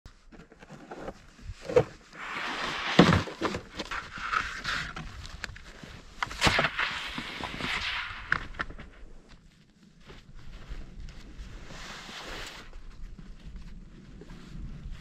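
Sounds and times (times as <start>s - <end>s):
rustling crunching noise: 0.1s - 15.0s.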